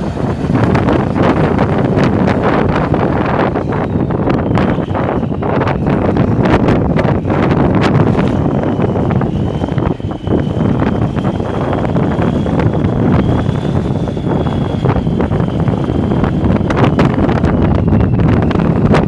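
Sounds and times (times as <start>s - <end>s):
diesel tractor engine running: 0.0s - 19.0s
thin high whine: 0.0s - 19.0s
wind buffeting microphone: 0.0s - 19.0s.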